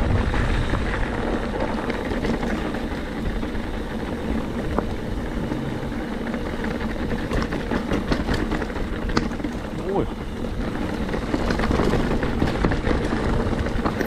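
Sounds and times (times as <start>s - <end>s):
bike clicks and rattles: 0.0s - 14.0s
bike tyres rumbling on rocks: 0.0s - 14.0s.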